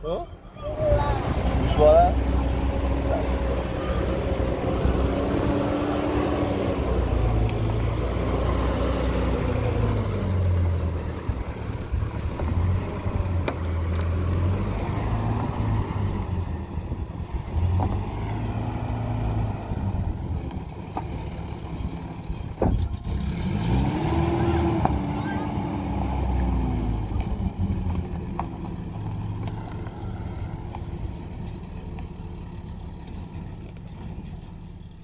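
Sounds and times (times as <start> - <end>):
pickup truck engine driving off: 0.7 - 35.0.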